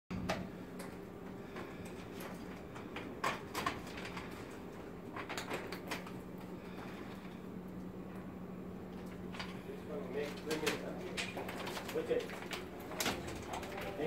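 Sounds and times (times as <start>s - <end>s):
conveyor machinery humming: 0.1s - 14.0s.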